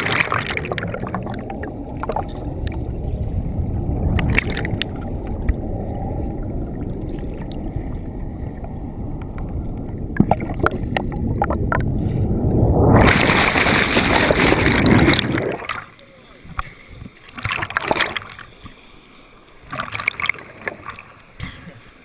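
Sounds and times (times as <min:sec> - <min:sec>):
muffled underwater water rushing: 0:00.0 - 0:22.0.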